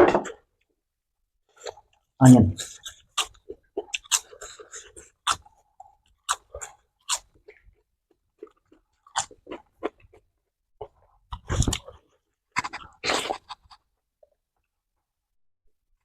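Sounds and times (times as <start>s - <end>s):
close-miked crunchy chewing: 1.5s - 14.4s.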